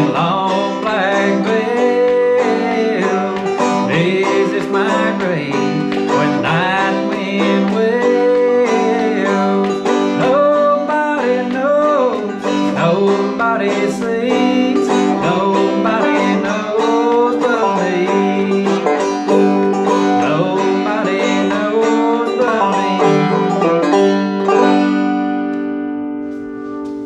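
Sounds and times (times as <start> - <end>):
banjo plucking: 0.0 - 27.0.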